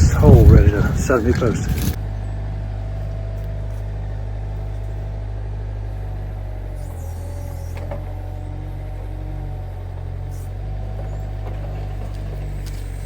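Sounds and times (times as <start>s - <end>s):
diesel engine idling: 0.0s - 13.0s
faint whine: 0.0s - 13.0s.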